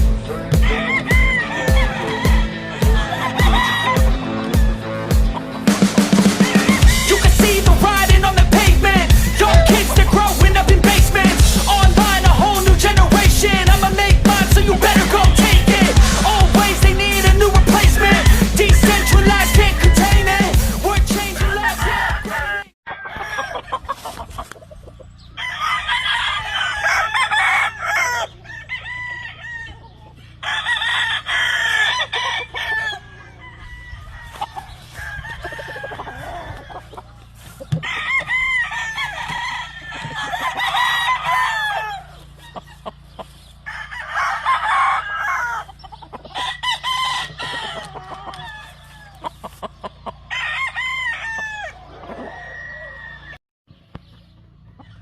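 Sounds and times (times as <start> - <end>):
roosters crowing: 0.0 - 53.4.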